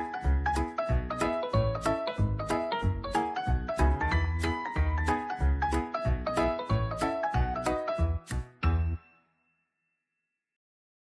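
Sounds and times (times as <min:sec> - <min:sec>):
upbeat music with bouncy bass: 0:00.0 - 0:09.0.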